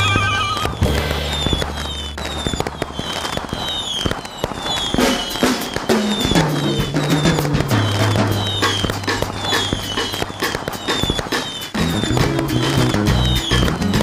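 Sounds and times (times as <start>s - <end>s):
fireworks bangs and crackles: 0.0s - 14.0s
short falling whistles: 0.0s - 14.0s.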